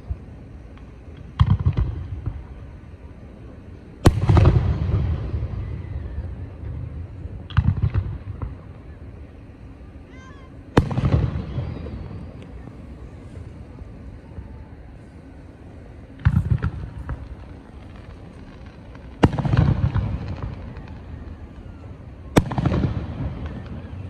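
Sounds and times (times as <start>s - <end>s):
fireworks booming: 0.0s - 24.0s
long rolling rumble: 0.0s - 24.0s.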